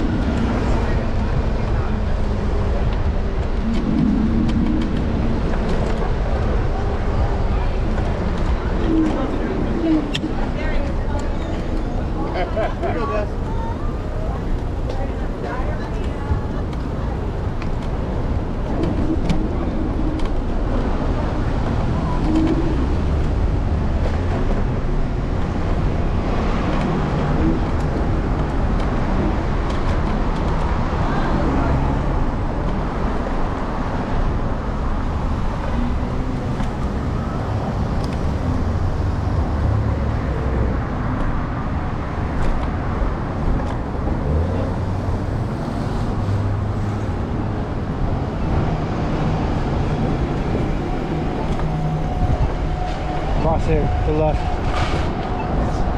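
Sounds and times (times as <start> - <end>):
city street traffic rumble: 0.0 - 55.9.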